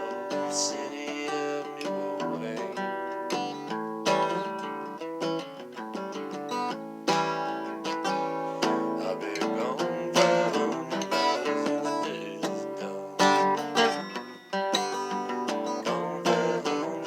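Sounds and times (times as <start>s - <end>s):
acoustic guitar folk strumming: 0.0s - 17.0s.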